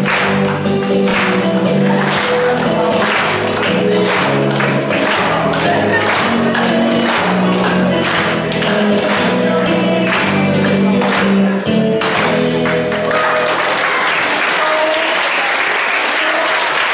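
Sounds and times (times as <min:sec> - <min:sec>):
music with pitched notes: 0:00.0 - 0:14.0
audience applause: 0:00.0 - 0:16.9.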